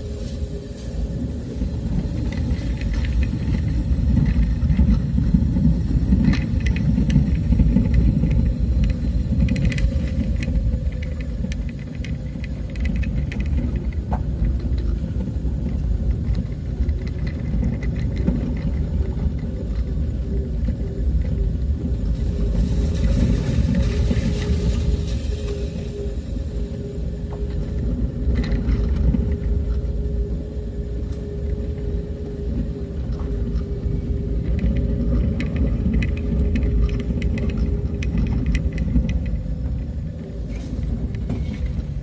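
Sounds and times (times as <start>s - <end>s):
small rattles and clicks: 1.6s - 42.0s.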